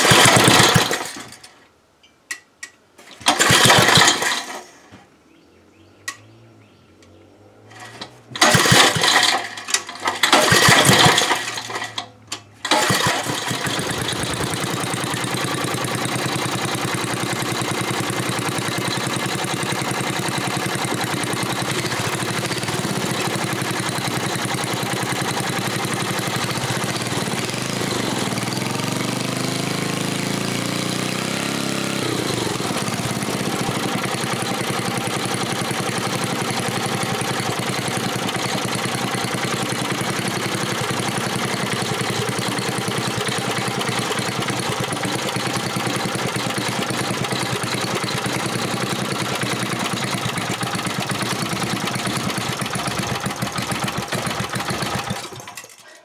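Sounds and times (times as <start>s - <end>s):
small engine running: 0.0s - 1.4s, 3.3s - 4.7s, 7.5s - 56.0s.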